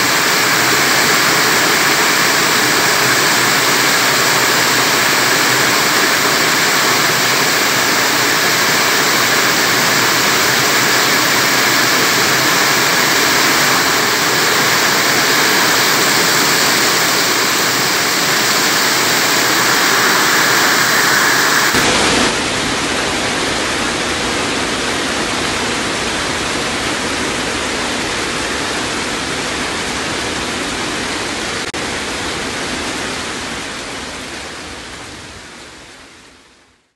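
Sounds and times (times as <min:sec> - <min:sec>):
rain and hail falling: 0:00.0 - 0:31.1
heavy rain pouring: 0:00.0 - 0:36.2.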